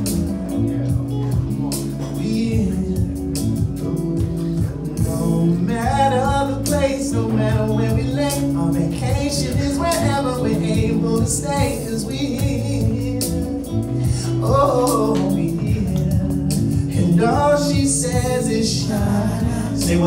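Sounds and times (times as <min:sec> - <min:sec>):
man singing r and b song: 0:00.0 - 0:20.0
steady beat and bass: 0:00.0 - 0:20.0.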